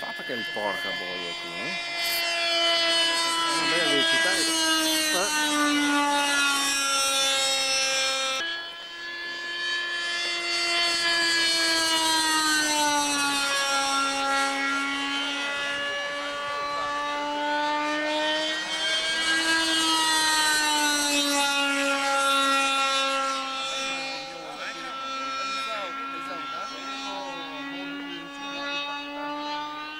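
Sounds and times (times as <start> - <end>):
model jet engine drone: 0.0 - 29.9.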